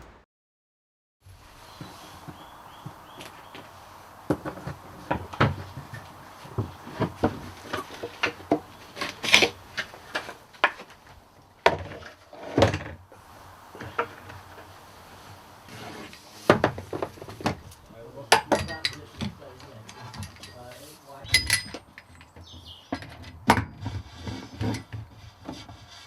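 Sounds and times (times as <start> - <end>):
knocks clicks and scrapes: 1.8 - 13.0, 15.6 - 26.0.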